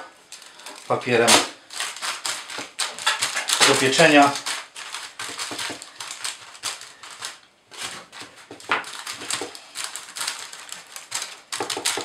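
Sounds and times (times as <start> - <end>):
baking paper crinkling: 0.0 - 12.0.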